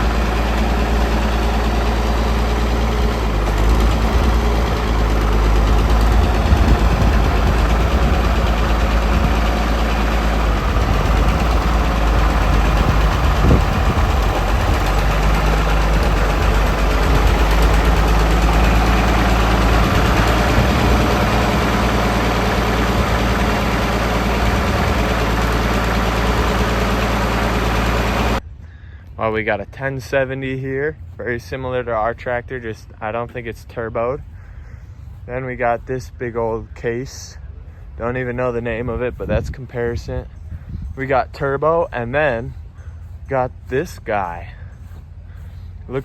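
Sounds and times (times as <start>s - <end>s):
tractor engine idling: 0.0s - 46.0s.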